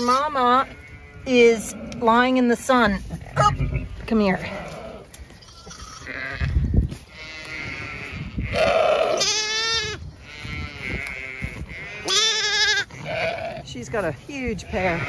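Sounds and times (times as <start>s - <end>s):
lamb bleating: 0.0s - 2.1s, 3.2s - 15.0s.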